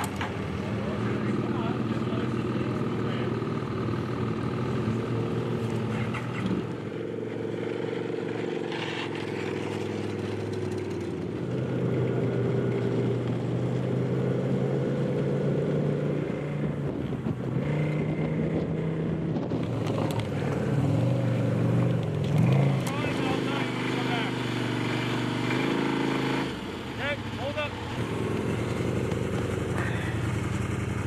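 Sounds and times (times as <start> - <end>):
snowmobile engines running: 0.0 - 31.0.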